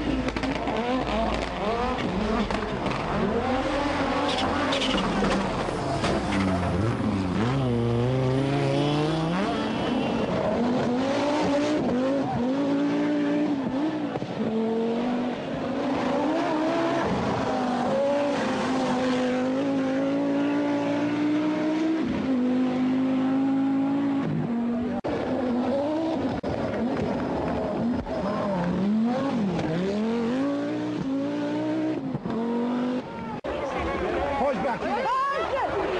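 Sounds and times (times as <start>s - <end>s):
rally car engine revving: 0.0s - 33.5s.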